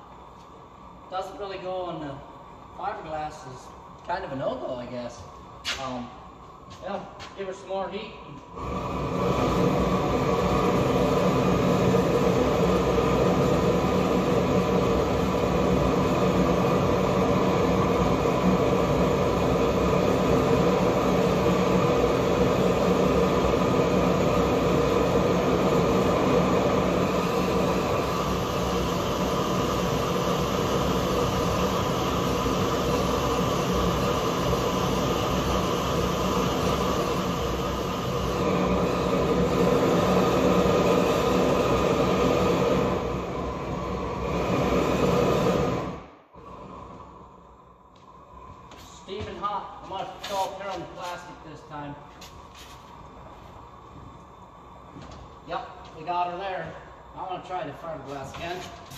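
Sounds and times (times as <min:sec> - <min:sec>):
propane torch flame rushing: 0:00.0 - 0:58.9.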